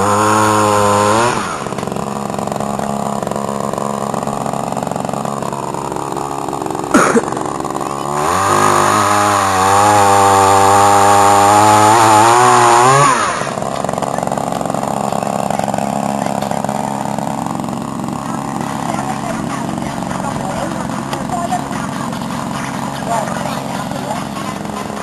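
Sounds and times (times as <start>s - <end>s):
two-stroke engine revving and idling: 0.0s - 25.0s.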